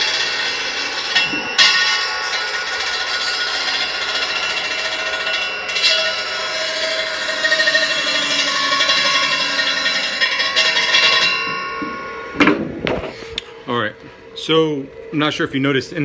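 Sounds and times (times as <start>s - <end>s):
radial arm saw whining: 0.0s - 16.0s.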